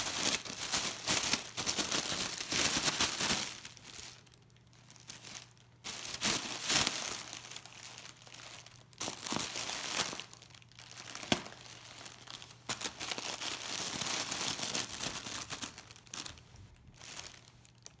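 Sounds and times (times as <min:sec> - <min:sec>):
plastic air pillows crinkling: 0:00.0 - 0:18.0.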